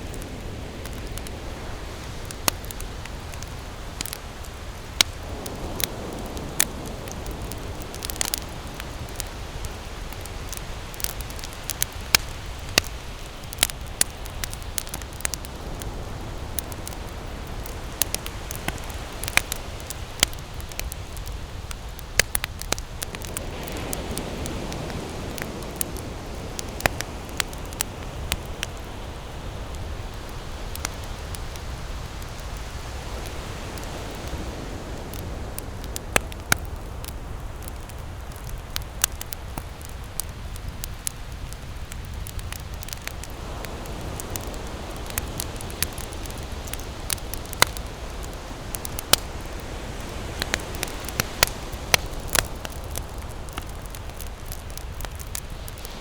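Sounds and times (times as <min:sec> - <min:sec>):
campfire crackles and pops: 0:00.0 - 0:56.0
low rush of fire: 0:00.0 - 0:56.0.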